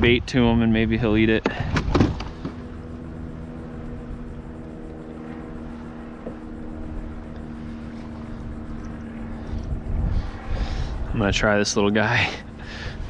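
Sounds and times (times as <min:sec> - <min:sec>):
engine drone: 0:00.0 - 0:13.0
low rumble: 0:00.0 - 0:13.0.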